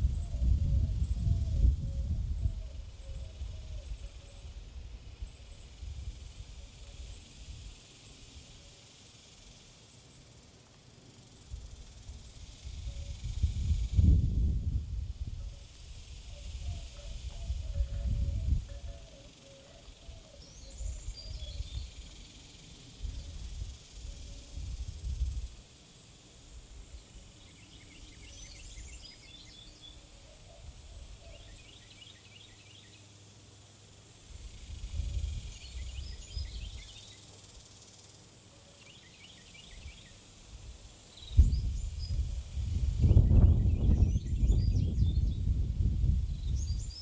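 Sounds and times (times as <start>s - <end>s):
small songbirds chirping: 0.0s - 47.0s.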